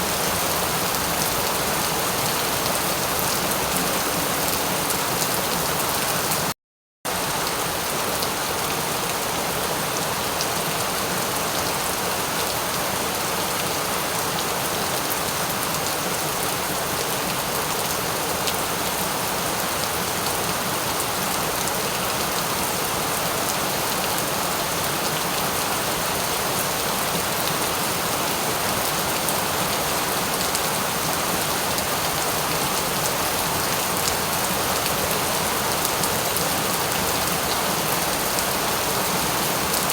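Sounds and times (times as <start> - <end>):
steady rain falling: 0.0 - 6.5, 7.1 - 39.9.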